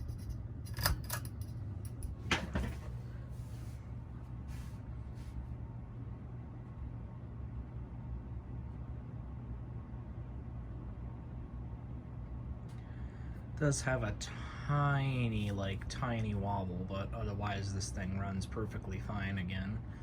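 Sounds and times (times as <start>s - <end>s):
ceiling fan humming: 0.0s - 20.0s.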